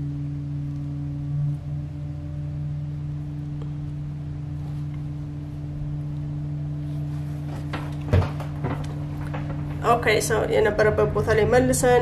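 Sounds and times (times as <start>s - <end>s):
low two-pitch hum: 0.0s - 12.0s.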